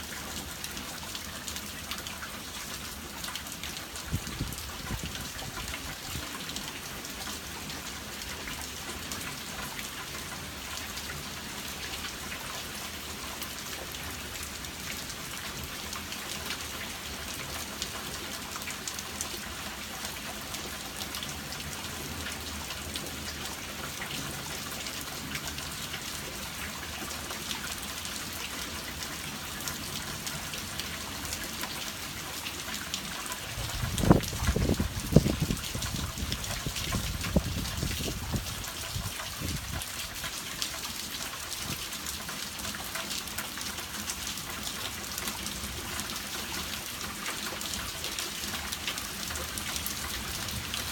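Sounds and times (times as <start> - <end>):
raindrops ticking on surfaces: 0.0 - 50.9
steady rain falling: 0.0 - 50.9.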